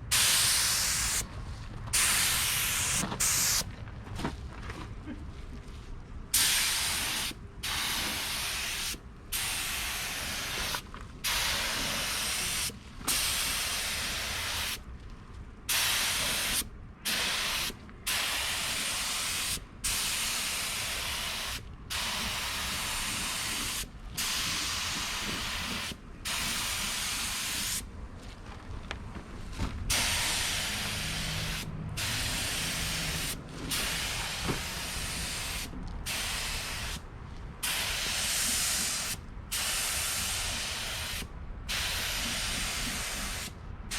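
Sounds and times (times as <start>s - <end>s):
paint spray gun hissing: 0.1s - 1.2s, 2.0s - 3.6s, 6.4s - 14.8s, 15.7s - 27.8s, 29.9s - 37.0s, 37.6s - 43.5s.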